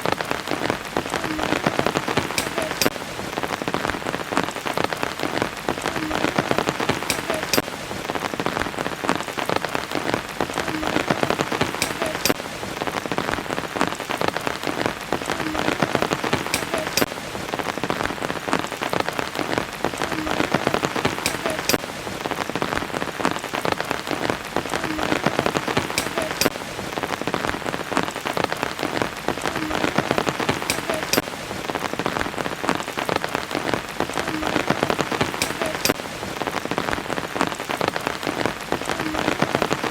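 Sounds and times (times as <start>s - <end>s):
raindrops ticking: 0.0s - 39.9s
steady rain patter: 0.0s - 39.9s.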